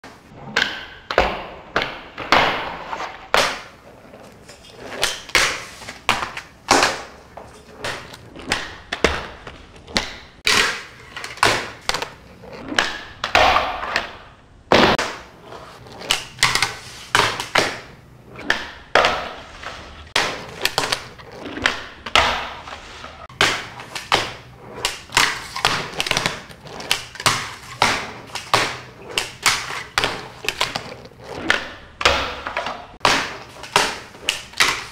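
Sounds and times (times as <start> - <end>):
handboard scraping grinds: 2.6 - 13.9, 14.9 - 34.9.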